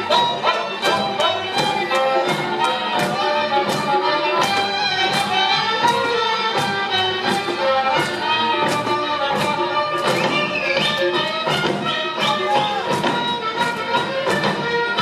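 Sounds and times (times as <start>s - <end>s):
folk dance music led by violin: 0.0s - 15.0s.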